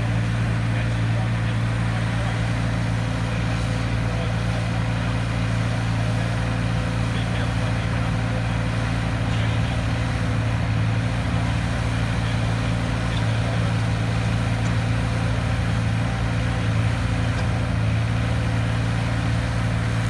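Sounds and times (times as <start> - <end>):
mini excavator engine running: 0.0 - 20.0.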